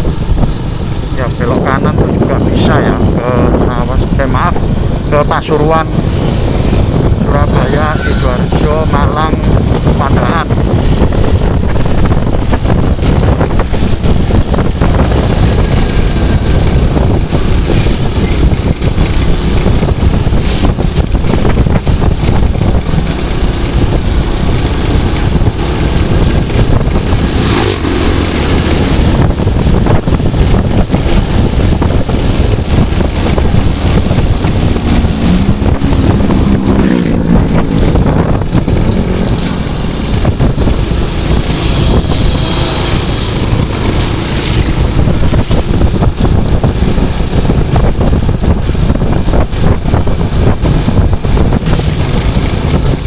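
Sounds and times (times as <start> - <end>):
motorcycle engine running: 0.0 - 53.0
tyres on asphalt: 0.0 - 53.0
wind rush on microphone: 0.0 - 53.0.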